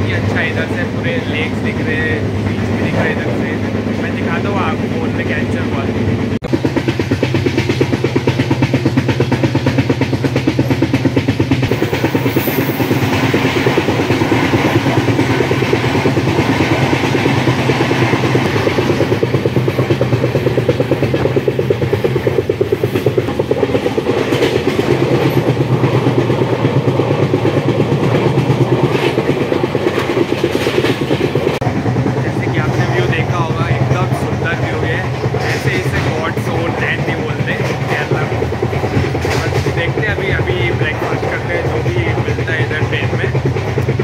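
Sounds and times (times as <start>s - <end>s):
train coach rumble: 0.0s - 44.0s
wheels clattering on track: 0.0s - 44.0s.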